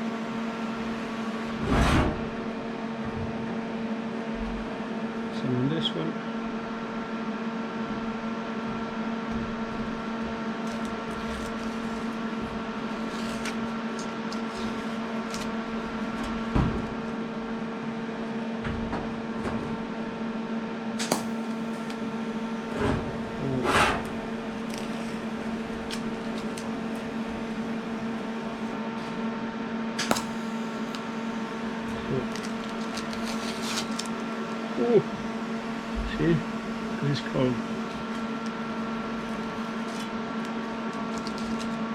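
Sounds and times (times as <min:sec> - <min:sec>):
welding machine humming: 0:00.0 - 0:41.9.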